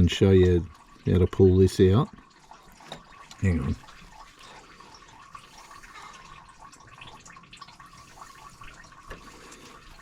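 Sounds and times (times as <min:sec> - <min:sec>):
oil dripping and trickling: 0:00.0 - 0:10.0.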